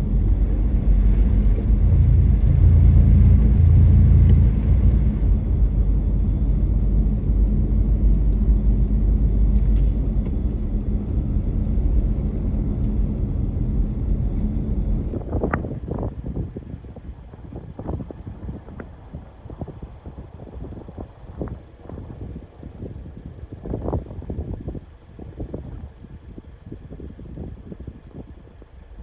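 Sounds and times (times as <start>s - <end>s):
car driving on snowy road: 0.0s - 29.0s.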